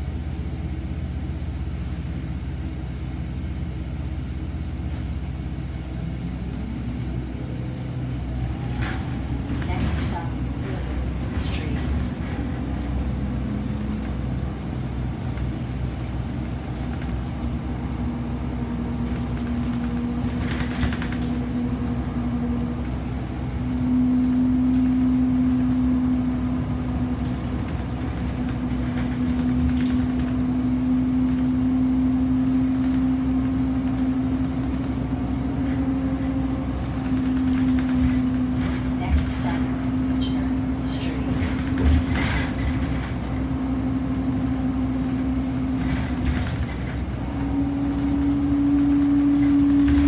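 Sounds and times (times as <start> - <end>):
bus engine drone with whine: 0.0 - 50.0.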